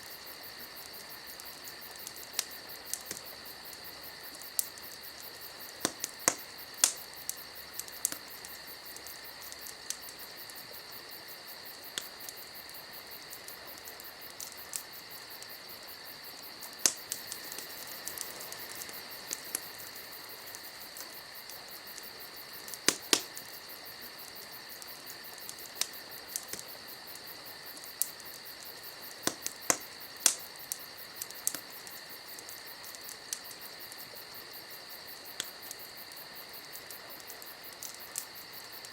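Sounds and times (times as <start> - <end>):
campfire crackling and popping: 0.0 - 38.9
insect-like chirring: 0.0 - 38.9.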